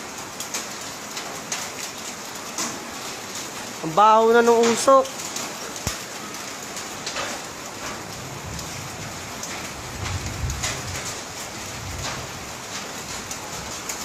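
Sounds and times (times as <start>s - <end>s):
gritty rain pattering: 0.0s - 14.0s
drops and grit ticking: 0.3s - 14.0s.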